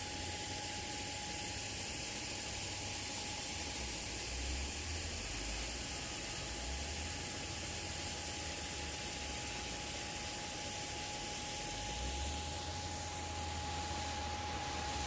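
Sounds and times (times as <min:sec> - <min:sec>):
faint steady whine: 0:00.0 - 0:15.0
steady hiss: 0:00.0 - 0:15.0.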